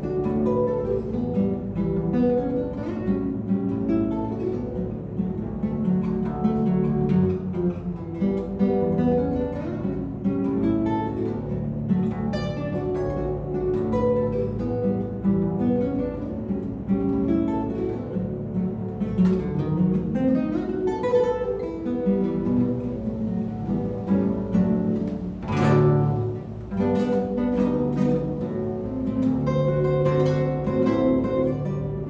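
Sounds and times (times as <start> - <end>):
fingerpicked acoustic guitar: 0.0 - 32.0
strummed guitar chord: 0.0 - 32.0.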